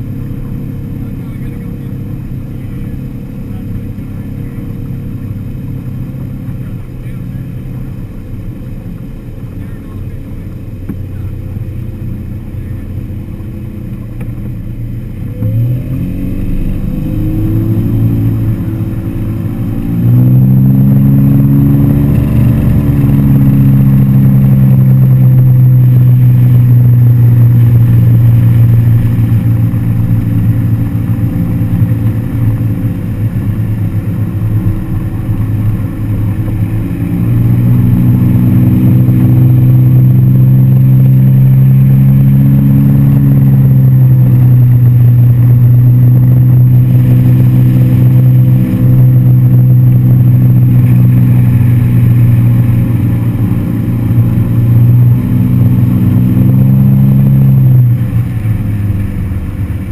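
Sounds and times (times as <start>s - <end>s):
motorboat engine accelerating: 0.0s - 59.9s.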